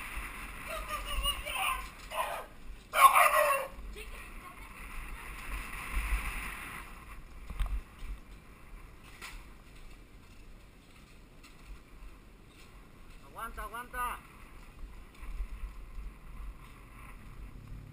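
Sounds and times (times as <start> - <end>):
wind and road noise: 0.0 - 17.9.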